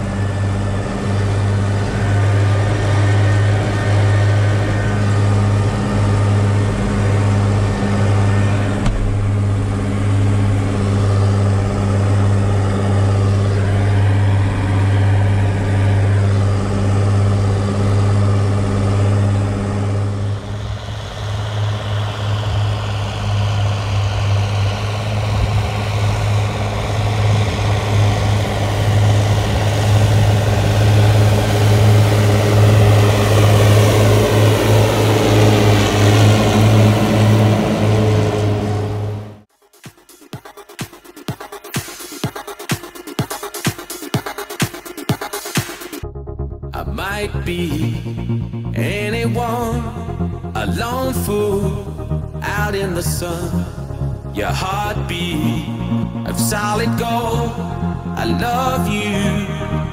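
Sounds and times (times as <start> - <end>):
tractor engine humming: 0.0 - 39.5, 43.0 - 59.9.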